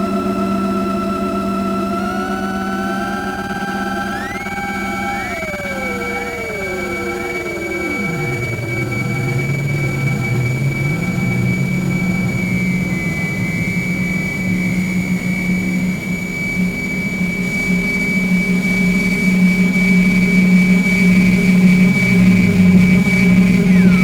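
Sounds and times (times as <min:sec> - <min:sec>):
dark noisy synthesizer drone: 0:00.0 - 0:16.3, 0:20.9 - 0:24.0.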